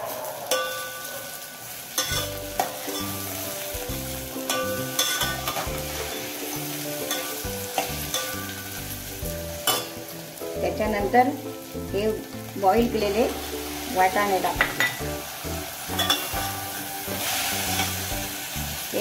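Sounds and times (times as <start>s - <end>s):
background music: 0.0s - 19.0s
vegetables sizzling in oil: 0.0s - 19.0s.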